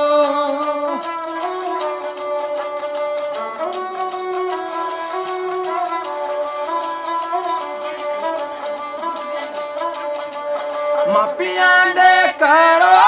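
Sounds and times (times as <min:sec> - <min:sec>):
bowed fiddle melody: 0:00.0 - 0:13.0
small bells jingling: 0:00.0 - 0:13.0.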